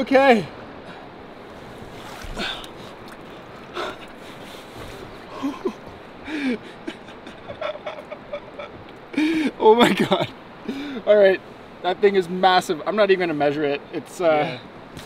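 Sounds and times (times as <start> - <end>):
wind and water hiss: 0.0 - 15.0.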